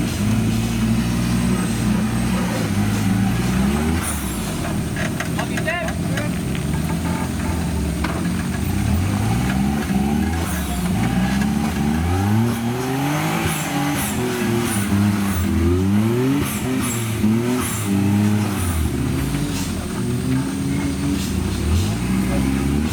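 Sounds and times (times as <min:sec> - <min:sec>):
engine revving in blips: 0:00.0 - 0:22.9.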